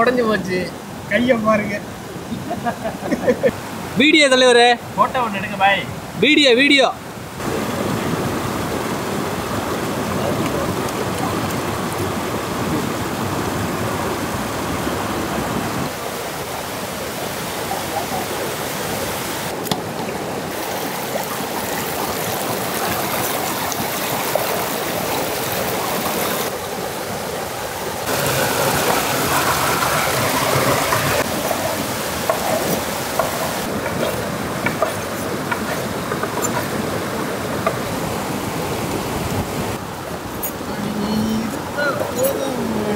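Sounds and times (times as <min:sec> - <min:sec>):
water rushing over rapids: 0:03.5 - 0:42.9.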